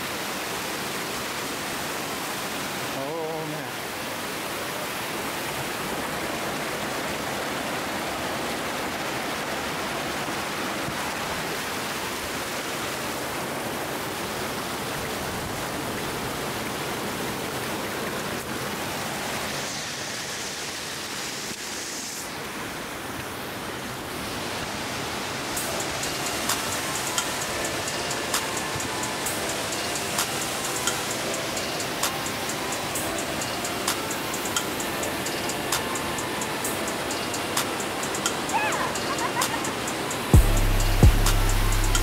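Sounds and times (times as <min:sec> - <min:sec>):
waterfall splashing over rocks: 0:00.0 - 0:42.0.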